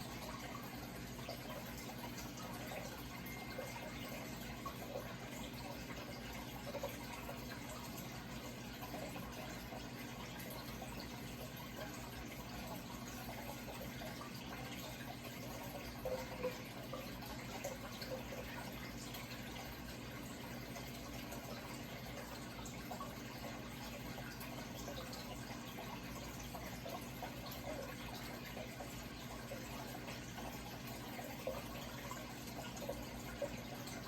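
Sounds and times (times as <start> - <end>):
low steady hum: 0.0 - 34.0
water trickling: 0.0 - 34.0.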